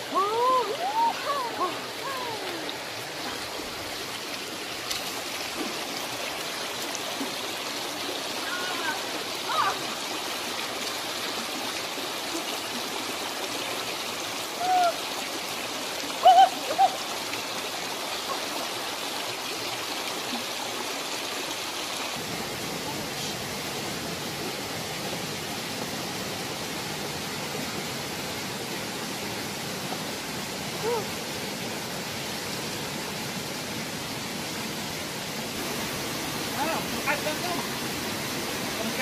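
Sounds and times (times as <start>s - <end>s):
stream rushing over stones: 0.0s - 39.0s.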